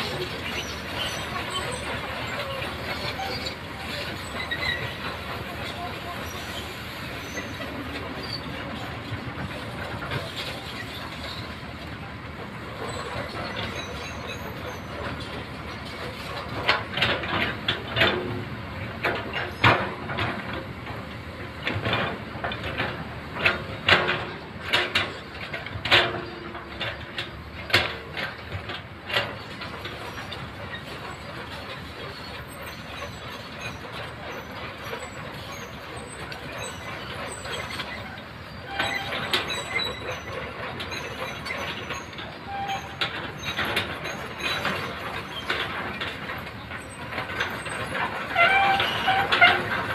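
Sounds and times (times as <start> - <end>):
metallic clanks and rattles: 0.0 - 18.4, 19.0 - 49.9
excavator engine running: 0.0 - 49.9.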